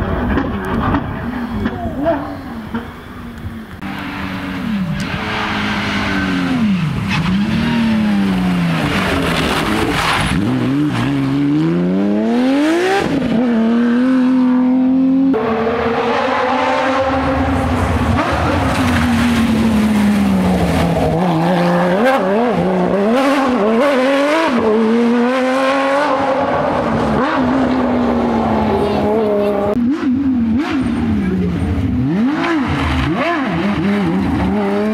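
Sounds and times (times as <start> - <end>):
rally car engine revving: 0.0 - 34.9.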